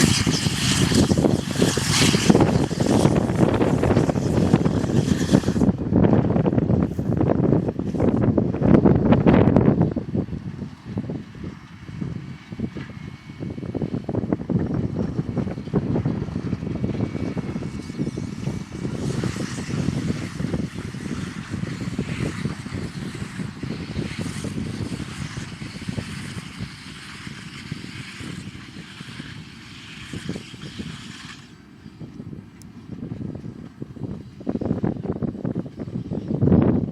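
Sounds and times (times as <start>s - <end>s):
tractor and baler running: 0.0s - 36.9s
wind buffeting microphone: 0.0s - 36.9s.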